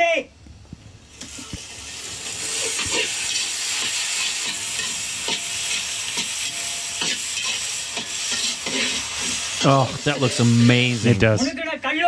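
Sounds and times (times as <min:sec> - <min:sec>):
vegetables sizzling in oil: 0:01.0 - 0:11.7
ladle scraping a wok: 0:01.2 - 0:11.2.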